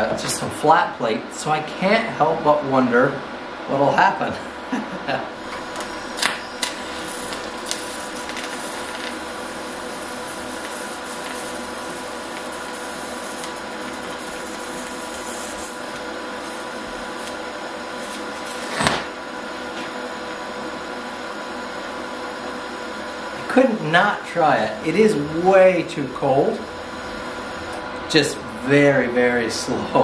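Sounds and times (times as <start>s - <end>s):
welder electrical hum and hiss: 0.0s - 30.0s.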